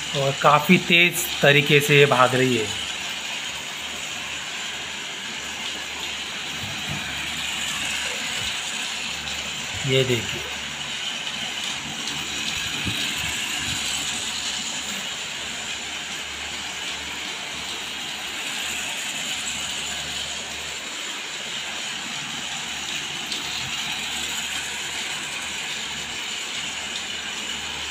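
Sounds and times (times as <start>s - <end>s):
toy train motor whirring and rattling: 4.0s - 27.8s.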